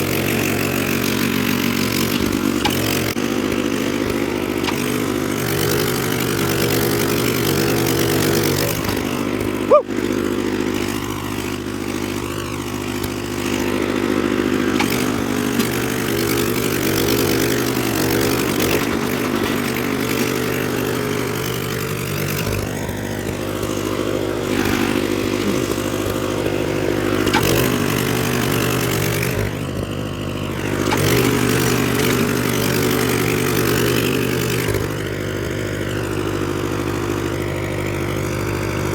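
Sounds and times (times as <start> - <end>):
rototiller engine running: 0.0 - 38.9.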